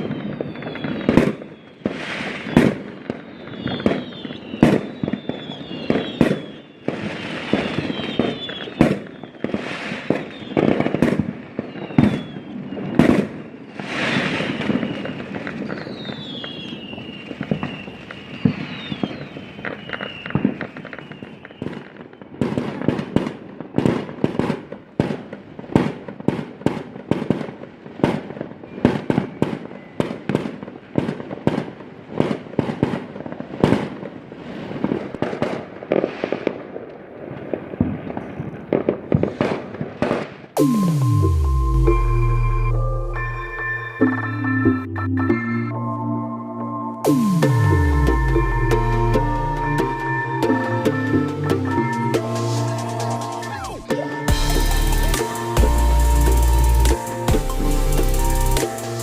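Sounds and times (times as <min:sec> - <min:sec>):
fireworks bangs and crackles: 0:00.0 - 0:45.6, 0:47.0 - 0:59.0
fireworks falling whistles: 0:00.0 - 0:46.1, 0:46.9 - 0:59.0.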